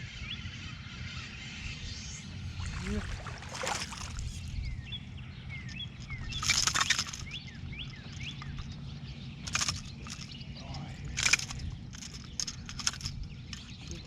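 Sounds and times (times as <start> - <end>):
steady low hum: 0.0 - 14.0
small bird chirping: 1.6 - 14.0.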